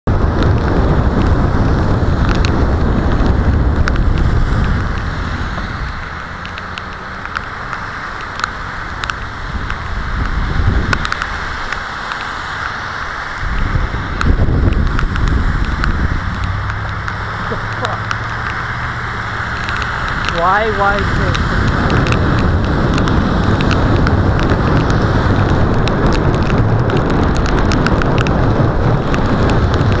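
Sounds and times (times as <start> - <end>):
rain and wind rush: 0.0 - 30.0
raindrops ticking on camera: 0.1 - 30.0.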